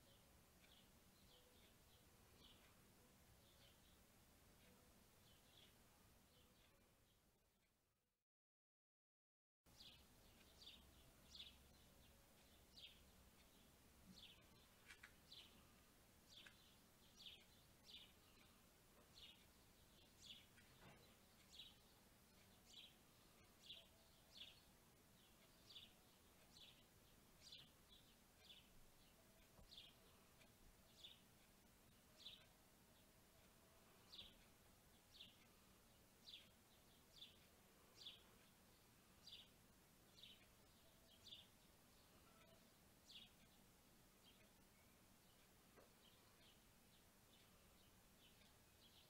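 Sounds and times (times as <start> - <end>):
bird chirping: 0.0 - 7.3, 9.7 - 49.0
outdoor background hiss: 0.0 - 7.9, 9.7 - 49.0.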